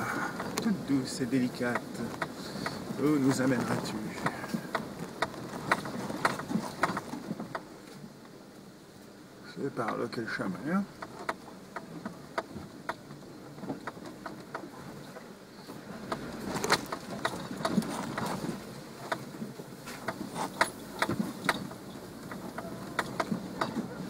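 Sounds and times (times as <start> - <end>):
vehicle body and suspension rattling: 0.0 - 8.3, 9.5 - 24.0
low engine rumble: 0.0 - 24.0.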